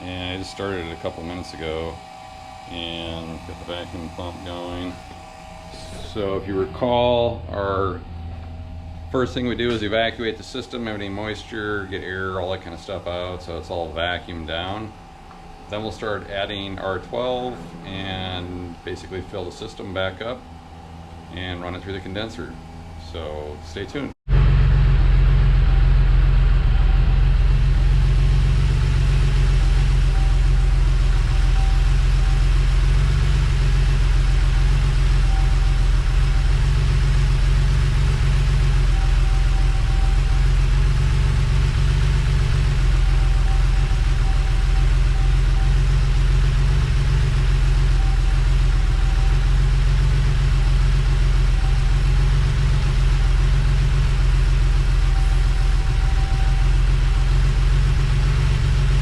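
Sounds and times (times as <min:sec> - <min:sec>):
faint higher tone: 0:00.0 - 0:59.0
motor running with low drone: 0:00.0 - 0:59.0.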